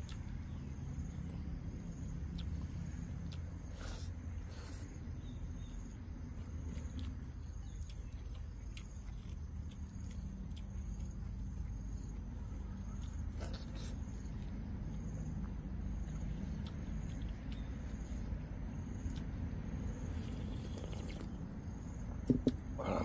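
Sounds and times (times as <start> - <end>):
mouth chewing: 0.0 - 21.7
faint high insect trill: 0.0 - 23.0.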